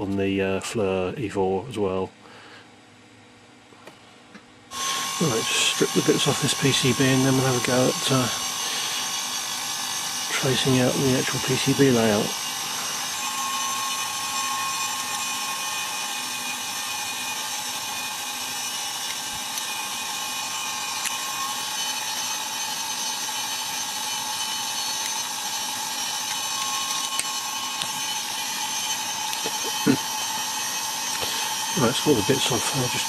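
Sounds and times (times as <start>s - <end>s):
faint whine tones: 3.7s - 33.0s
hot-air station hissing: 4.7s - 33.0s.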